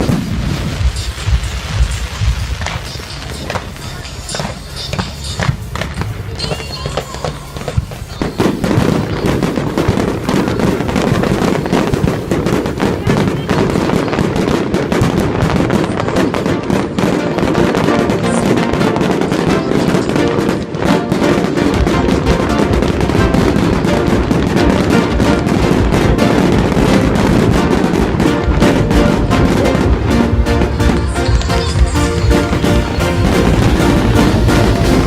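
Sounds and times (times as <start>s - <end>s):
fireworks cracks and bangs: 0.0s - 35.0s
music: 0.0s - 35.0s.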